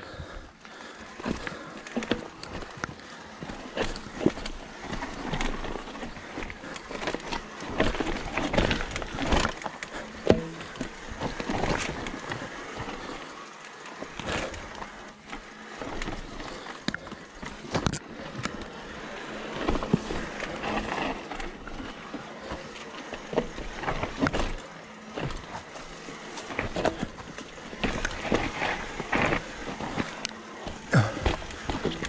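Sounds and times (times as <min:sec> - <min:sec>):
tyres crunching over gravel: 0:00.0 - 0:32.0
bike knocks and rattles: 0:00.1 - 0:32.0.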